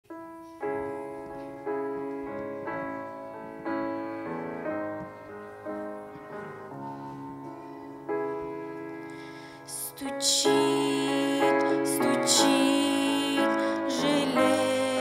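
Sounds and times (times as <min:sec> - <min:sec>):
slow keyboard chords: 0:00.0 - 0:15.0.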